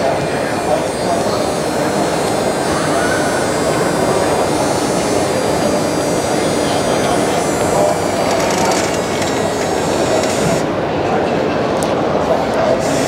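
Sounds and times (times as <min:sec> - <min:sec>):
electric hydraulic pump running: 0:00.0 - 0:10.9, 0:12.5 - 0:13.0
people talking: 0:00.0 - 0:13.0.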